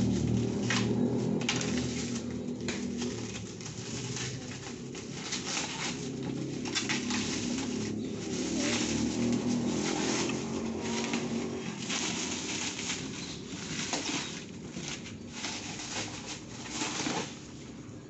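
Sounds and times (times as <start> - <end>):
packing tape tearing: 0.0 - 17.6
cardboard scraping: 0.0 - 18.0.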